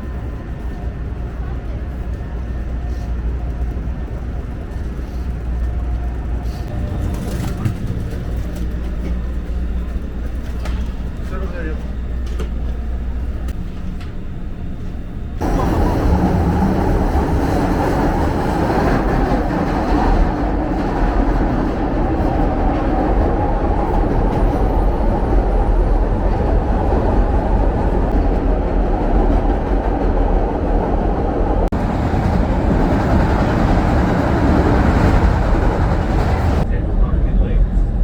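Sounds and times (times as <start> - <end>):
train rumbling on tracks: 0.0 - 38.0.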